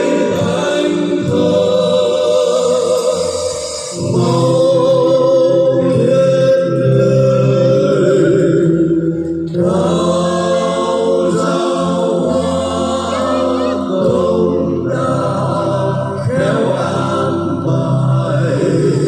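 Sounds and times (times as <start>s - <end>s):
choir-like voices holding notes: 0.0s - 19.0s
sustained bass notes: 0.0s - 19.0s.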